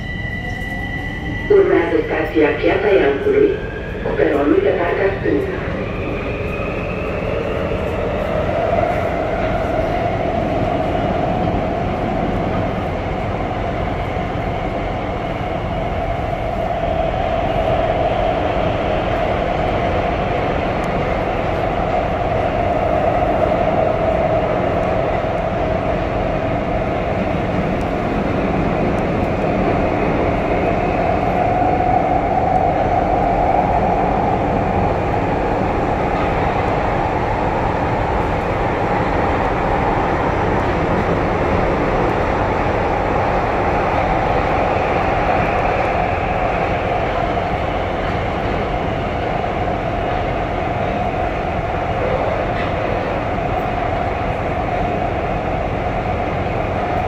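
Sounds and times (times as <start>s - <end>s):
train wheels rumbling on rail: 0.0s - 57.0s
train whine: 0.0s - 57.0s.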